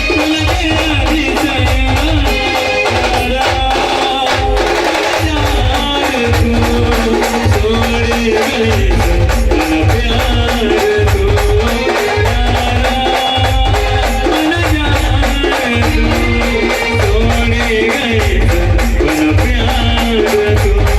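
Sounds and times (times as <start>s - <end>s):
band playing a tune: 0.0s - 20.9s
heavy rhythmic drum beat: 0.0s - 20.9s
quick percussion strokes: 0.0s - 20.9s.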